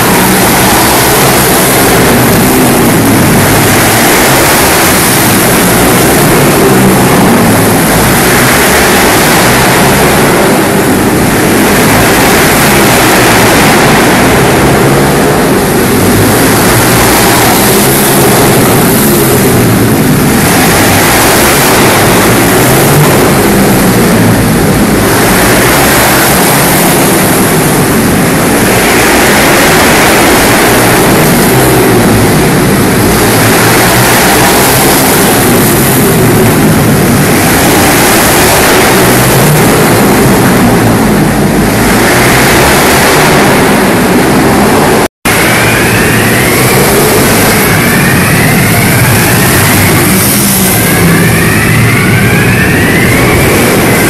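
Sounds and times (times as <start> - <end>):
small motorbike engines revving: 0.0 - 54.0.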